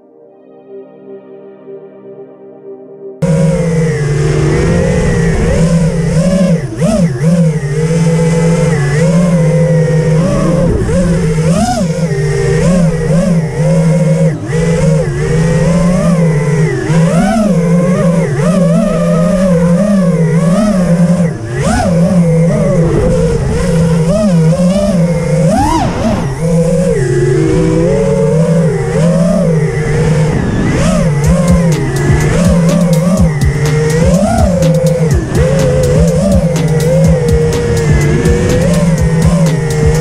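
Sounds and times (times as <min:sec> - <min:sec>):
drone motors whining: 0:03.2 - 0:40.0.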